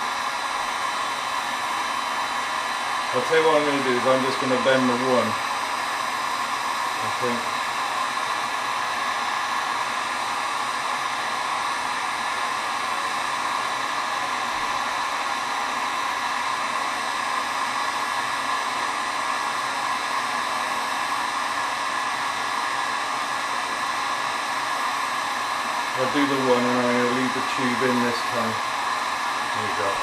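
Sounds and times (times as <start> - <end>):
heat gun blowing air: 0.0 - 30.0.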